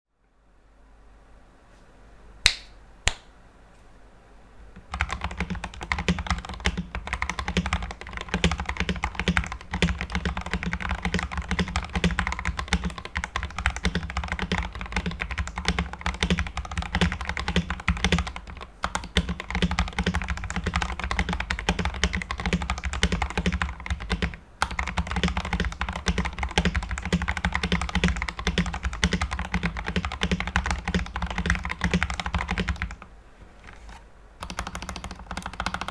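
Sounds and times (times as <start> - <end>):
mechanical keyboard typing: 4.8 - 33.1, 33.7 - 35.9.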